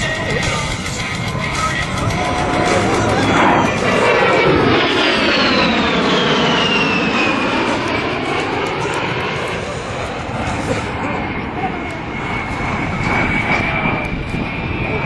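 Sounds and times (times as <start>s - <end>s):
jet engines whining in flyby: 0.0s - 15.0s.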